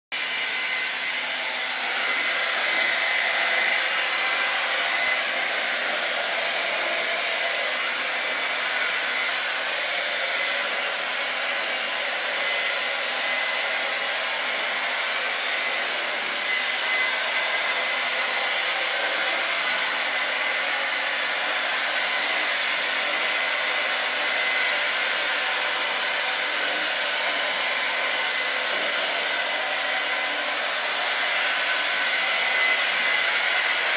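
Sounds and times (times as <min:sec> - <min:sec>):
hair dryer running: 0:00.1 - 0:33.9.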